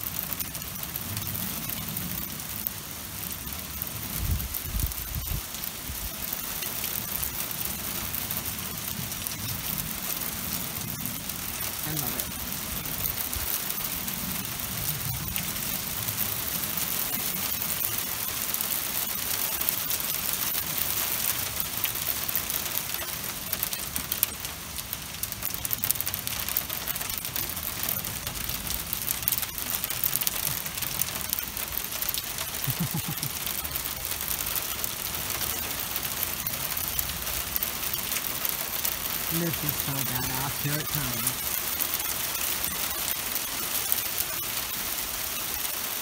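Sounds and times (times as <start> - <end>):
rain and ice pellets on car: 0.0 - 46.0.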